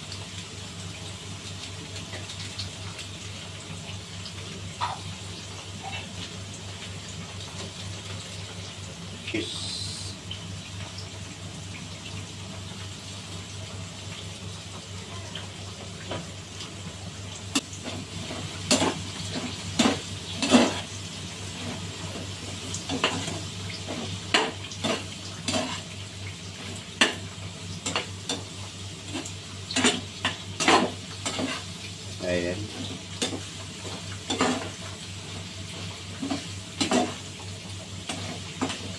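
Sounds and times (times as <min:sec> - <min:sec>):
meat sizzling in a pan: 0:00.0 - 0:38.9.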